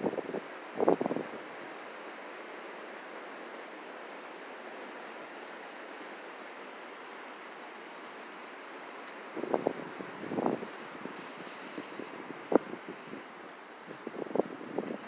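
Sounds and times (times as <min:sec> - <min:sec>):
steady wind: 0:00.0 - 0:15.0.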